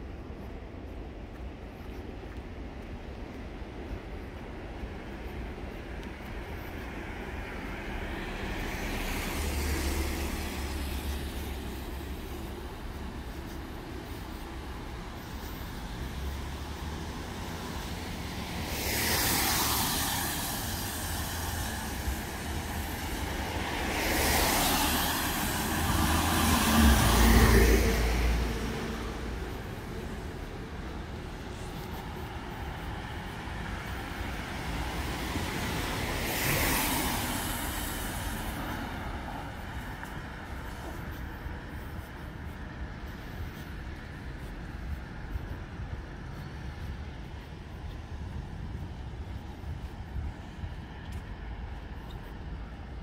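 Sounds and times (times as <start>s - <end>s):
vehicles passing: 0.0s - 53.0s.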